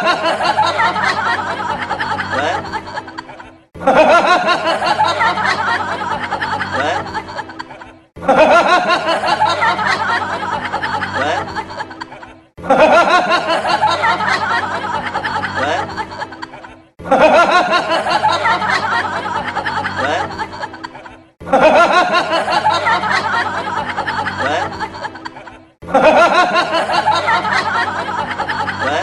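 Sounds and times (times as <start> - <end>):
canned laughter: 0.0 - 29.0
music: 0.0 - 29.0.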